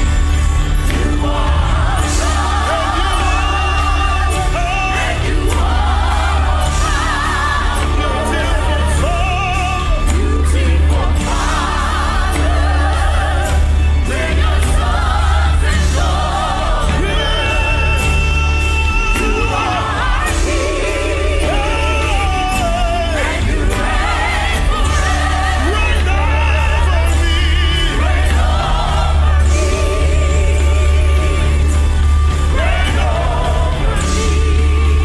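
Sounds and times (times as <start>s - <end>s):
band with deep bass: 0.0s - 35.0s
voices singing gospel: 0.0s - 35.0s.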